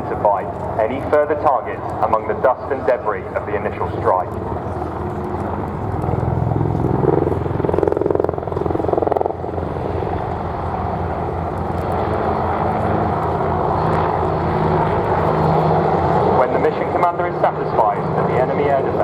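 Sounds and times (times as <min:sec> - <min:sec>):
helicopter engine drone: 0:00.0 - 0:19.0
helicopter rotor blades beating: 0:00.0 - 0:19.0.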